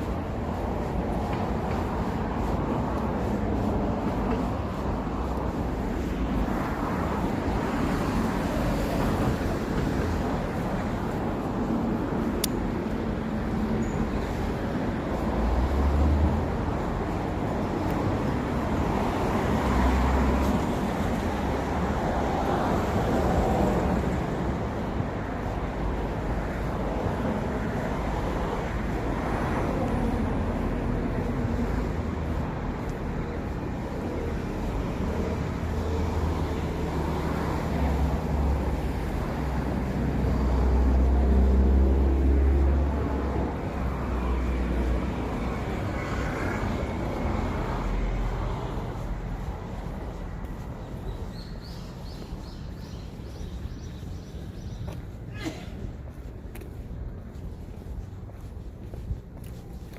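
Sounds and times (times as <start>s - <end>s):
heavy vehicles rumbling: 0.0s - 59.9s
passing cars: 0.0s - 59.9s.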